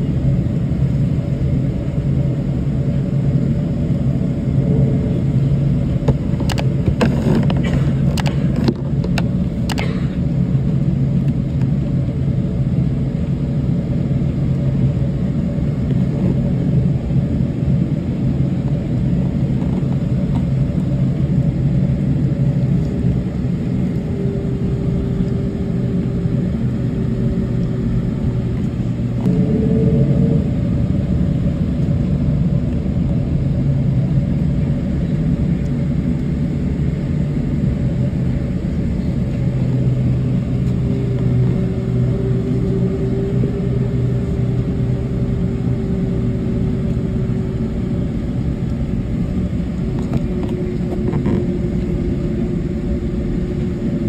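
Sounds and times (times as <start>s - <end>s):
aircraft cabin rumble: 0.0s - 54.0s
faint engine whine: 0.0s - 54.0s.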